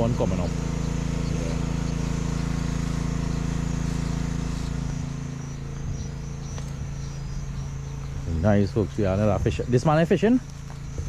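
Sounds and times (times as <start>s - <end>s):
insects buzzing: 0.0s - 11.0s
motor engine running: 0.0s - 11.0s.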